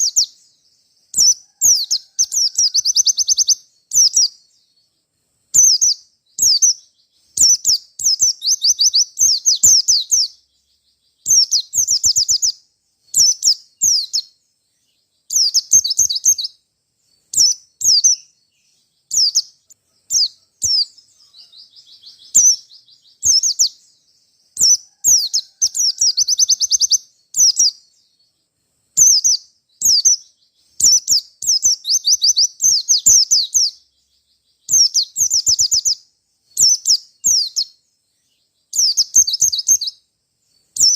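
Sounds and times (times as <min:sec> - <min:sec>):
bird trills and chirps: 0:00.0 - 0:40.9
soft bird twittering: 0:00.0 - 0:40.9.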